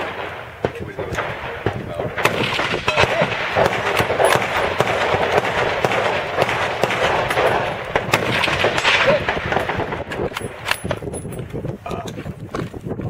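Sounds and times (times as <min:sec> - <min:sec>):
rifle gunshots: 0:00.0 - 0:11.2.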